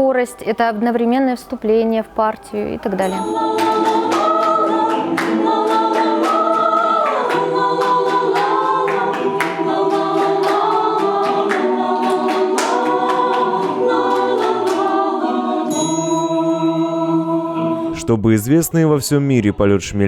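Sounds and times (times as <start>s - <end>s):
a cappella choir singing: 2.1s - 20.0s.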